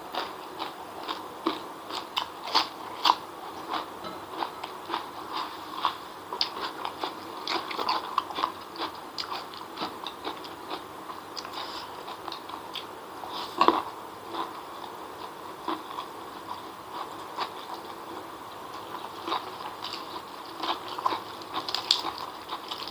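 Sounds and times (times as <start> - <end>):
chewing and wet mouth sounds: 0.1 - 22.9.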